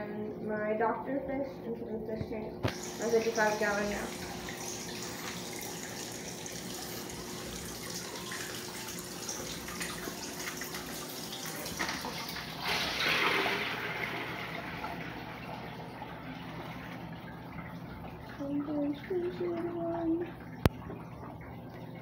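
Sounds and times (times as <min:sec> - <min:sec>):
water trickling in aquarium: 0:00.0 - 0:22.0
water poured into tank: 0:02.6 - 0:22.0.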